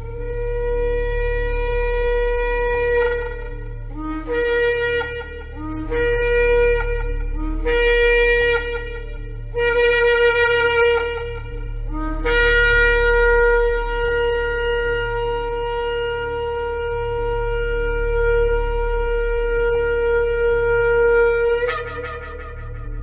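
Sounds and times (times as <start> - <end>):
low steady hum: 0.0 - 23.0
shofar blowing long notes: 0.0 - 23.0.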